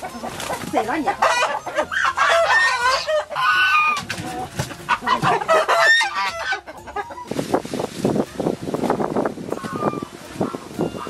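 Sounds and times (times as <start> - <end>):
chickens squawking and clucking: 0.0 - 8.2, 9.5 - 11.0.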